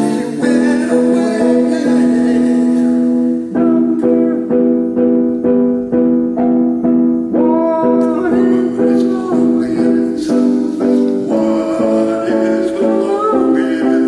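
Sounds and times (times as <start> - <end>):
electric keyboard chords: 0.0 - 14.0.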